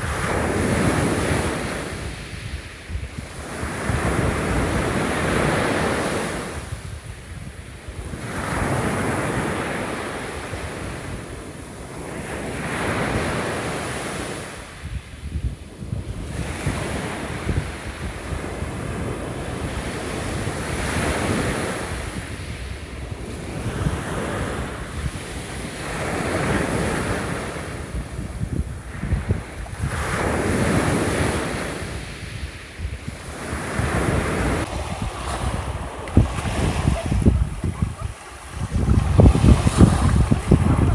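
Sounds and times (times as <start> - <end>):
waves washing onto shore: 0.0 - 40.9
wind rumble on microphone: 0.0 - 40.9.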